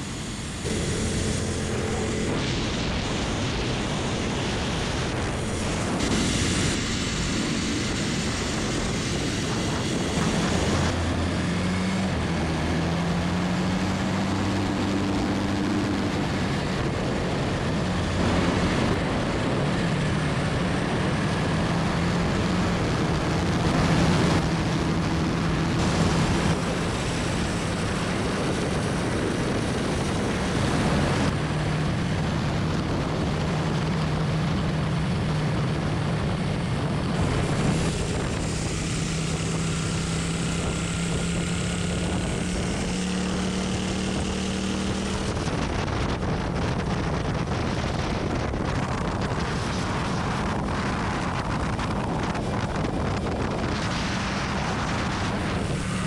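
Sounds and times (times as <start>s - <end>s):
motorcycle engine cruising drone: 0.0s - 56.0s
wind rushing over microphone: 0.0s - 56.0s.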